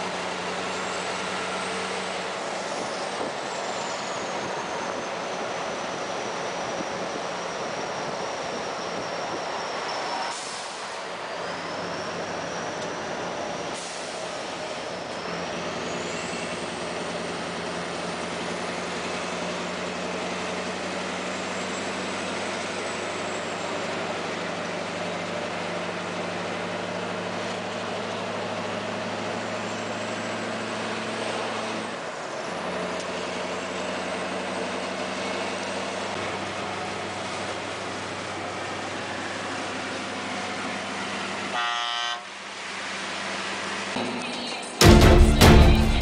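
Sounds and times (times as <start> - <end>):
diesel truck engine running: 0.0 - 41.6, 42.4 - 46.0
road noise: 0.0 - 46.0.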